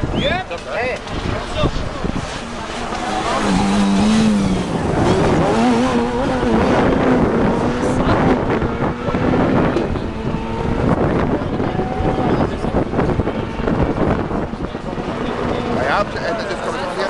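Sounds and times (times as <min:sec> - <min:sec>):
wind buffeting microphone: 0:00.0 - 0:17.0
rally car engine: 0:01.0 - 0:17.0.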